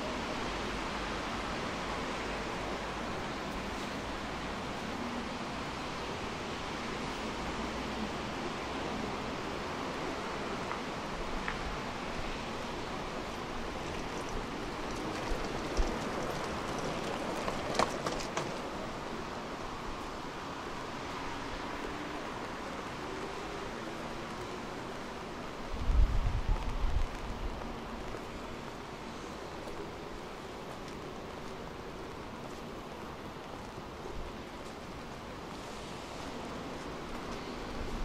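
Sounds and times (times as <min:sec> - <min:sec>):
city traffic: 0:00.0 - 0:38.0
gentle rain falling: 0:00.0 - 0:38.0.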